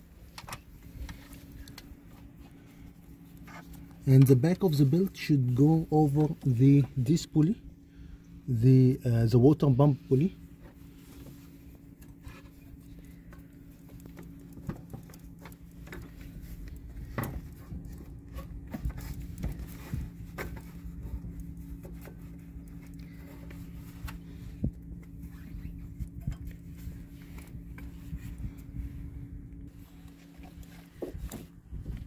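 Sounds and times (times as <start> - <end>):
steady low hum: 0.0 - 32.0
light clicks and rustles of hands: 0.2 - 7.5, 10.6 - 32.0.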